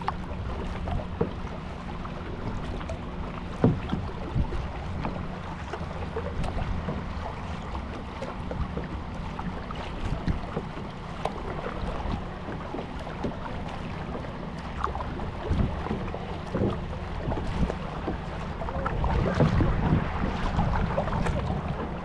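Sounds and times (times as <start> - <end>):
low wind rumble on microphone: 0.0 - 22.0
paddle splashes and knocks: 0.0 - 22.0.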